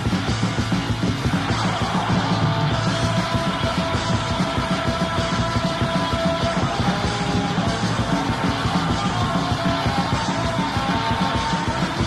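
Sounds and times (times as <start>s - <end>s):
distorted guitar: 0.0s - 12.0s
fast pounding drums: 0.0s - 12.0s.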